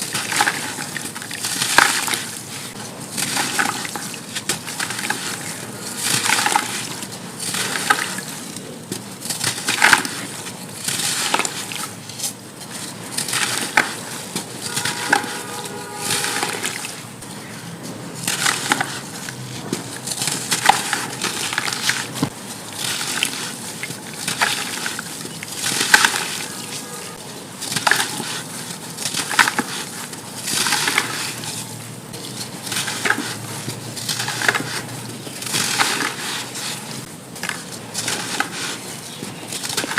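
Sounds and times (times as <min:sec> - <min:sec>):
dry sand crunching: 0:00.0 - 0:39.9.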